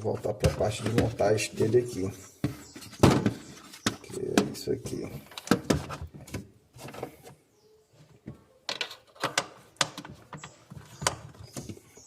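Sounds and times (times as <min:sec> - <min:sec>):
plastic parts clicking and knocking: 0:00.1 - 0:01.3, 0:02.4 - 0:07.4, 0:08.2 - 0:11.9.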